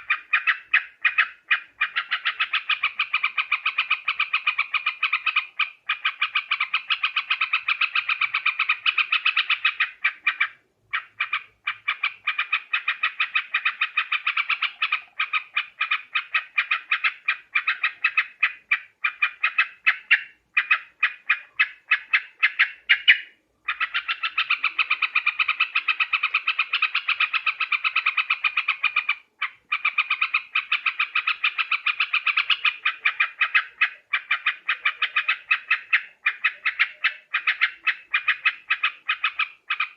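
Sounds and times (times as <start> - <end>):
bulbul chattering call: 0.0 - 39.9.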